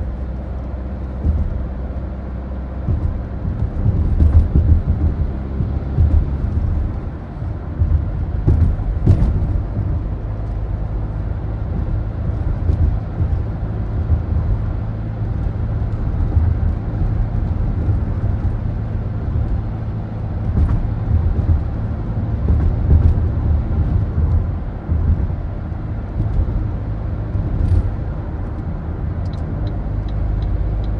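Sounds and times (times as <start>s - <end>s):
engine and road rumble: 0.0s - 30.9s
light knocks from road bumps: 0.2s - 2.1s, 2.8s - 30.9s.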